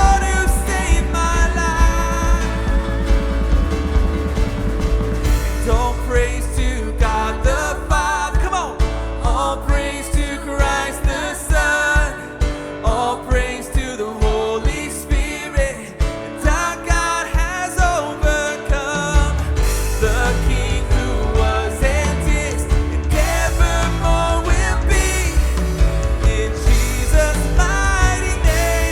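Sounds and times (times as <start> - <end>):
drums keeping a steady beat: 0.0 - 28.9
worship band playing: 0.0 - 28.9.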